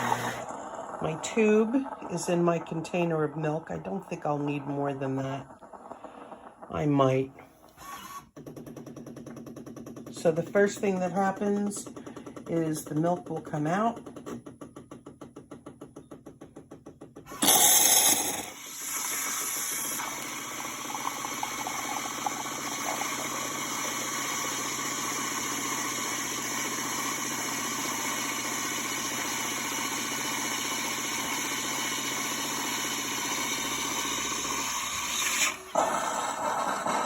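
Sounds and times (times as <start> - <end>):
coffee machine pump humming: 0.0 - 37.0.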